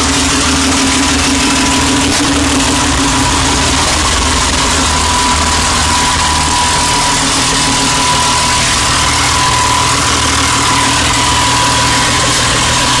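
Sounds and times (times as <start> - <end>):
car engine idling: 0.0 - 13.0
high turbo whine: 0.0 - 13.0.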